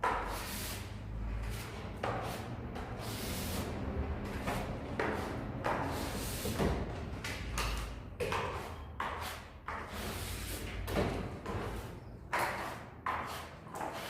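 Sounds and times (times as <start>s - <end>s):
trowel scraping plaster: 0.0s - 6.6s, 7.8s - 14.0s.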